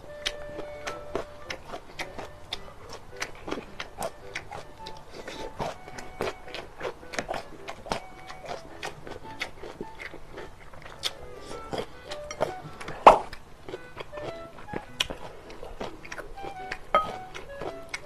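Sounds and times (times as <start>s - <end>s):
wet chewing and lip smacking: 0.0s - 18.0s.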